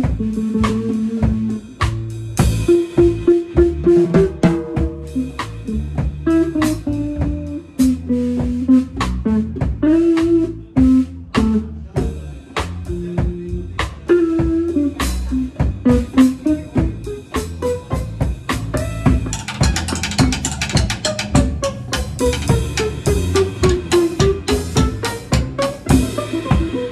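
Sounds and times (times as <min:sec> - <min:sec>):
drum and cymbal hits: 0:00.0 - 0:26.9
guitar lines: 0:00.0 - 0:26.9
low bass line: 0:00.0 - 0:26.9.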